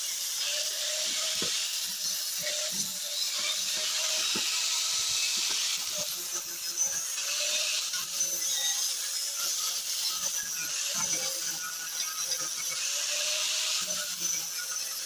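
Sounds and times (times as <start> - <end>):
angle grinder grinding metal: 0.0 - 15.0.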